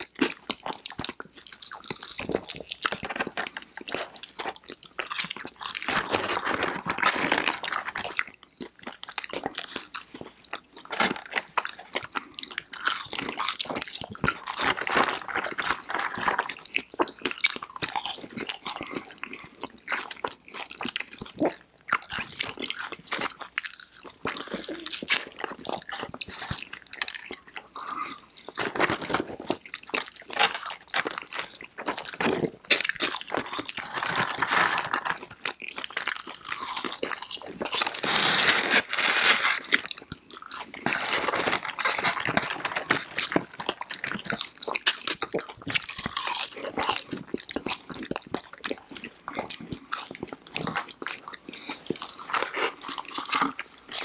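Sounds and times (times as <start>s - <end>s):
people chewing crunchy food: 0.0s - 54.0s.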